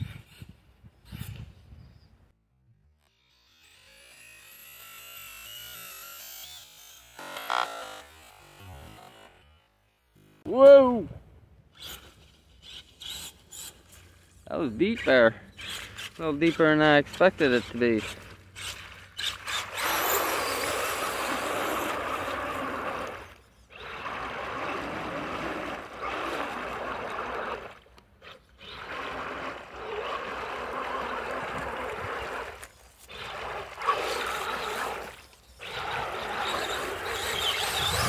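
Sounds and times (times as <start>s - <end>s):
rc truck splashing through mud: 3.6s - 9.0s, 11.8s - 38.0s.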